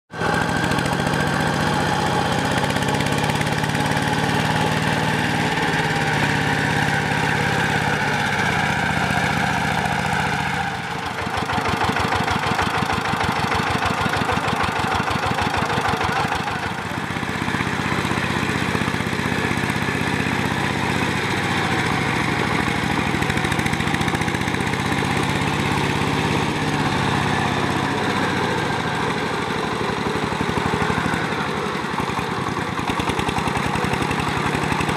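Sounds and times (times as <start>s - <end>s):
diesel engine chugging: 0.1s - 34.9s.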